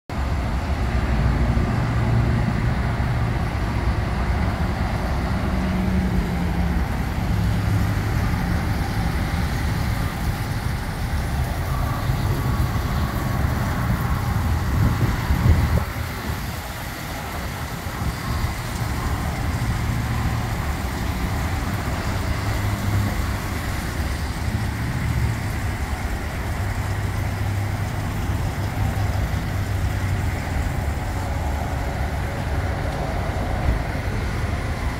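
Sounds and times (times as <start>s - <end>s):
road traffic rumbling hiss: 0.1s - 34.9s.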